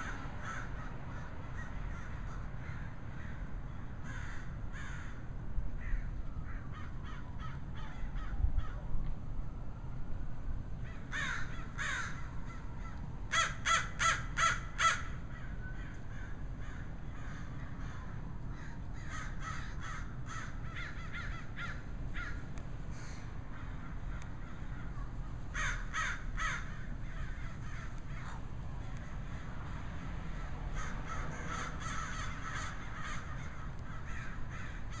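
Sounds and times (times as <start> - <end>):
crows cawing: 0.0 - 8.8, 10.8 - 35.0.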